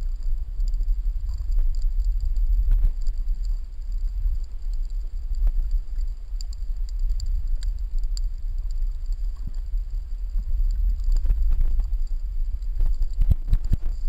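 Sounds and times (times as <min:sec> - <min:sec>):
underwater rumble of moving water: 0:00.0 - 0:14.0
faint clicks: 0:00.1 - 0:14.0.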